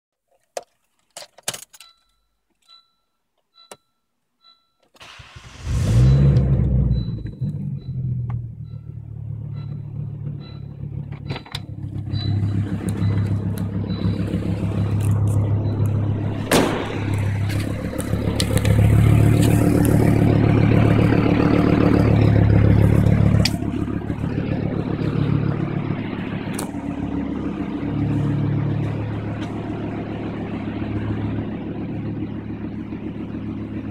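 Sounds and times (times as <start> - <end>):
car engine cranking and starting: 4.9 - 33.9
rough exhaust revving: 5.1 - 33.9.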